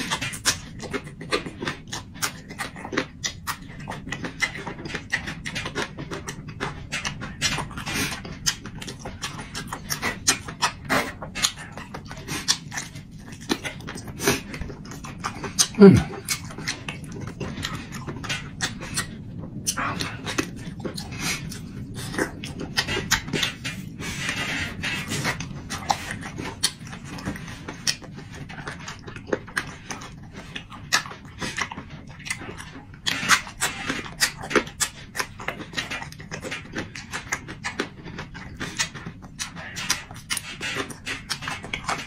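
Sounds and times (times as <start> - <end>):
man chewing and lip-smacking: 0.0 - 42.0.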